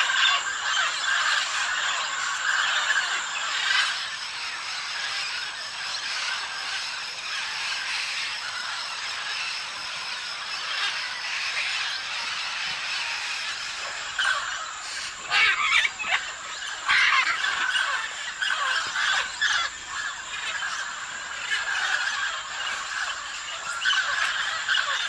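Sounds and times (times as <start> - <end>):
parrots squawking: 0.0 - 25.0.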